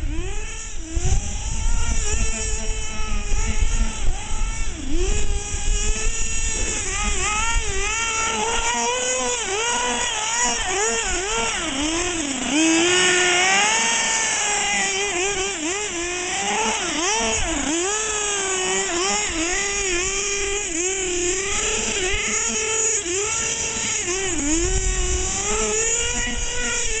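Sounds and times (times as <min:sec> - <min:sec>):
small nitro engine revving: 0:00.0 - 0:27.0.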